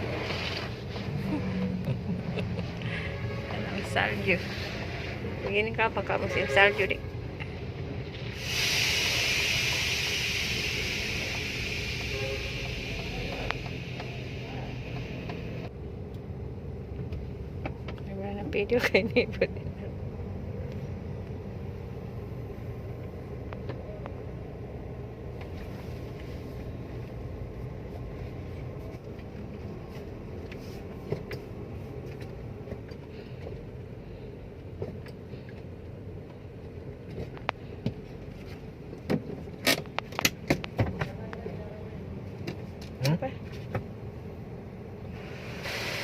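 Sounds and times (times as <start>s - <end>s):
car wash rumble: 0.0s - 7.0s, 8.0s - 46.0s.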